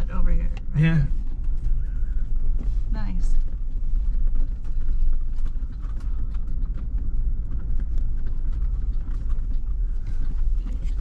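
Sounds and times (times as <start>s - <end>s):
gravel knocks and body rattles: 0.0s - 11.0s
off-road vehicle rumbling: 0.0s - 11.0s.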